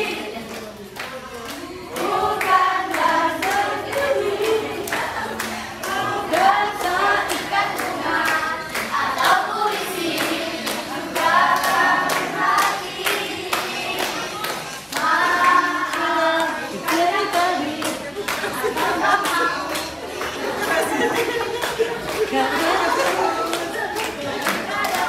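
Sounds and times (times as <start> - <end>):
group singing: 0.0 - 25.0
people clapping: 0.0 - 25.0.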